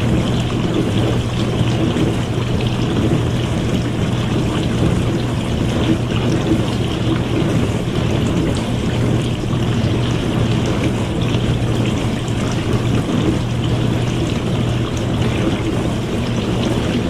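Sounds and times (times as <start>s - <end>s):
low motor hum: 0.0s - 17.0s
water spraying and splashing: 0.0s - 17.0s.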